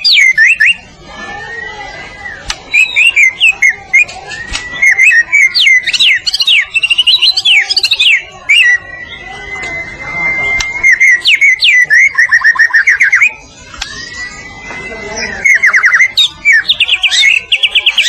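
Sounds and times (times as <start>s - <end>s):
songbird whistling: 0.0s - 0.9s, 1.5s - 18.0s.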